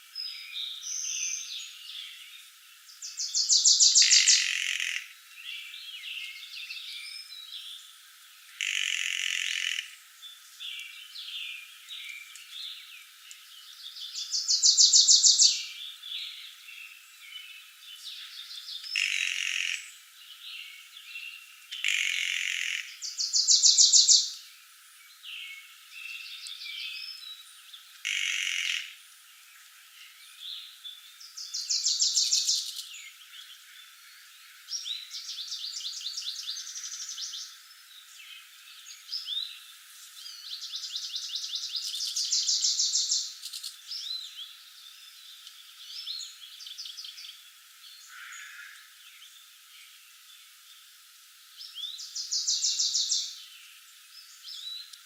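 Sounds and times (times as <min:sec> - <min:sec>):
bird chorus chirping: 0:00.0 - 0:07.9, 0:08.6 - 0:50.8, 0:51.6 - 0:55.0.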